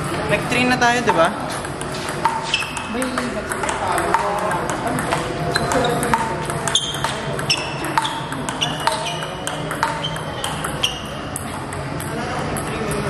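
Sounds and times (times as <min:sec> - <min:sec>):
table tennis ball clicking: 0:01.1 - 0:13.0.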